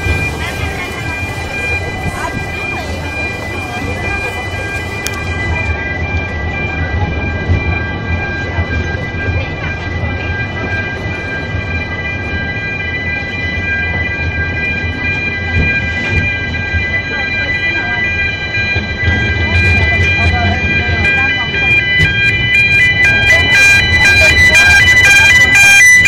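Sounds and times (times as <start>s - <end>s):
low rumble of train: 0.0s - 26.0s
wheel flanges squealing on rails: 0.0s - 26.0s.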